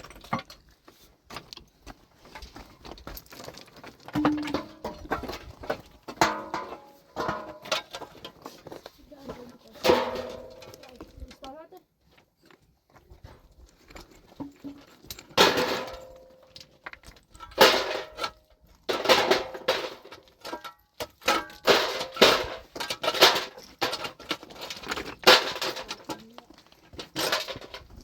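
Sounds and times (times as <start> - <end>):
metallic clattering and scraping: 0.0 - 11.6, 13.2 - 28.0.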